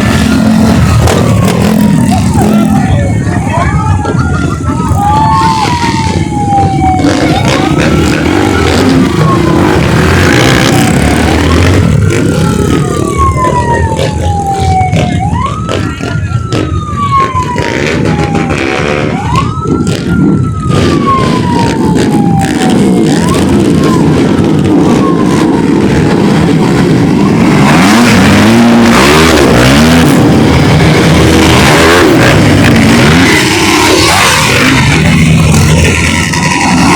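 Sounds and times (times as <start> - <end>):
siren wailing: 0.0 - 36.9.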